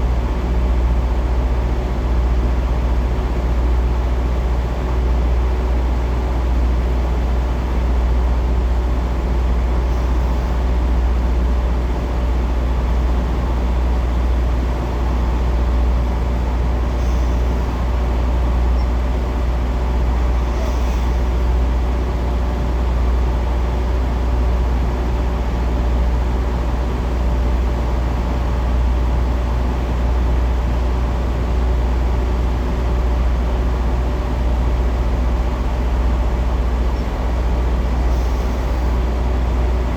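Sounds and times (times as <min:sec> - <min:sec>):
diesel engine rumble: 0:00.0 - 0:39.9.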